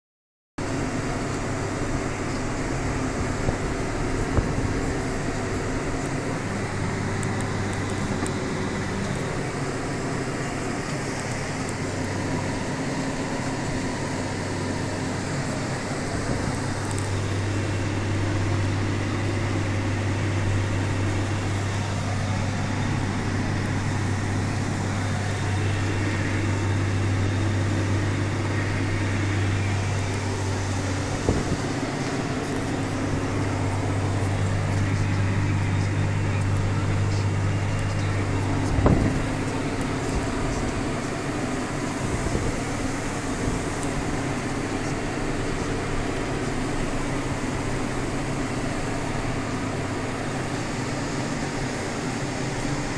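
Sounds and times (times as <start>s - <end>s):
tractor engine running: 0.6s - 52.9s.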